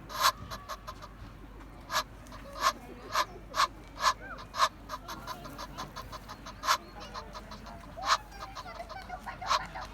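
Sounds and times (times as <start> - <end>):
goose honking: 0.0 - 1.1, 1.9 - 9.9.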